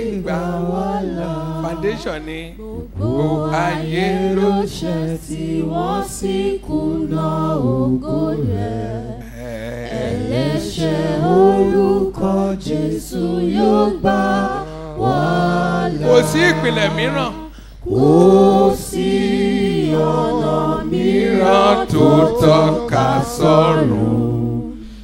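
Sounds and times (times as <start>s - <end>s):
group of voices singing: 0.0s - 25.0s.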